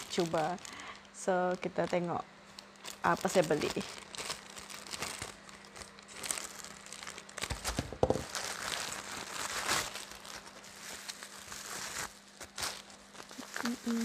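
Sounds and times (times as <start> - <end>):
plastic mailer bag crinkling: 0.0 - 14.0.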